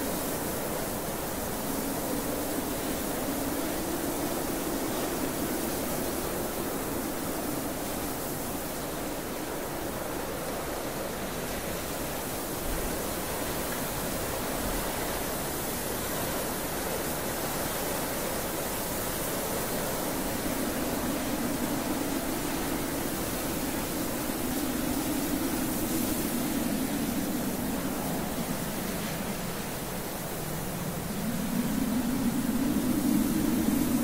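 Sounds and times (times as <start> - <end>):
rushing wind: 0.0 - 34.0.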